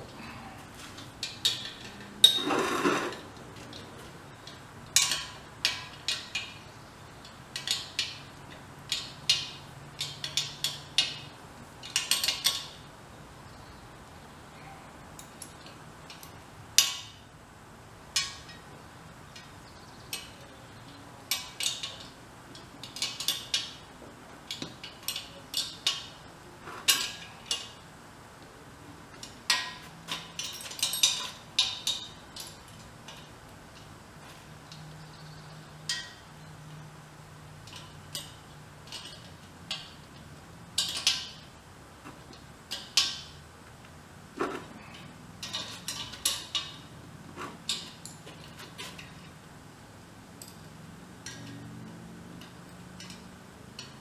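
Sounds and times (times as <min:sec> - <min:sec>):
metal tools clinking on steel: 0:00.3 - 0:12.9, 0:18.1 - 0:27.9, 0:29.1 - 0:43.4, 0:44.4 - 0:49.5, 0:50.3 - 0:54.0.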